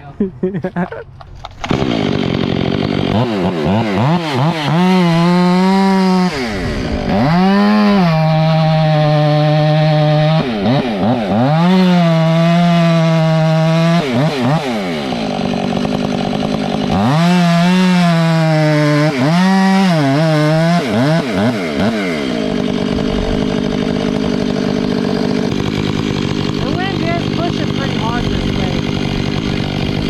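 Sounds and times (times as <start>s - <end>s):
chainsaw cutting wood: 1.2s - 30.0s.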